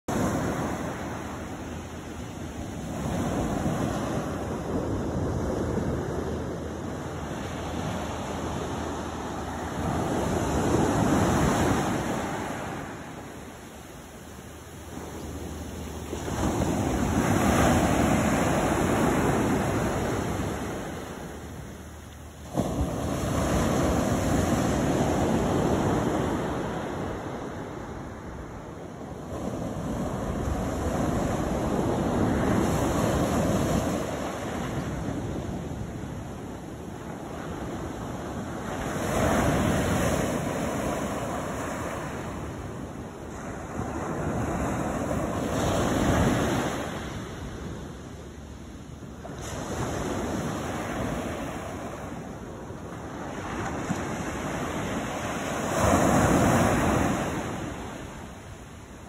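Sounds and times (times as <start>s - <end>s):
ocean surf breaking on beach: 0.1s - 59.0s.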